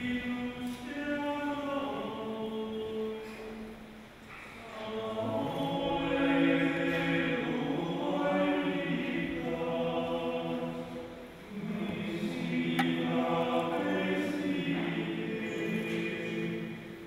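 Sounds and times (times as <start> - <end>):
choir singing sustained chords: 0.0 - 17.0.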